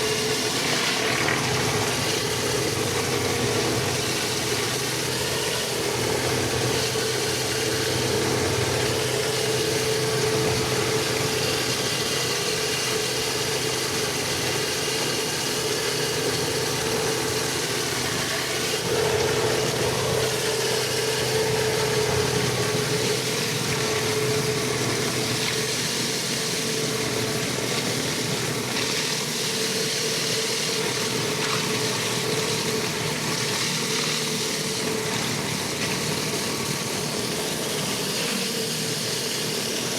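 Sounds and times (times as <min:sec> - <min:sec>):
pressure washer engine drone: 0:00.0 - 0:39.9.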